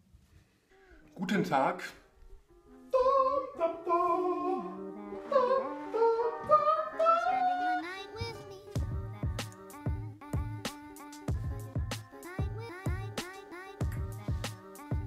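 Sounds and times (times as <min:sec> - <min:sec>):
sung or hummed melody: 0:02.1 - 0:15.0.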